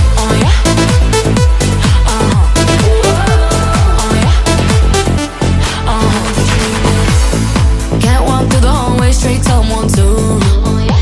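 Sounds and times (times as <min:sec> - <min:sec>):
electronic dance music: 0:00.0 - 0:11.0
heavy kick drum: 0:00.0 - 0:11.0.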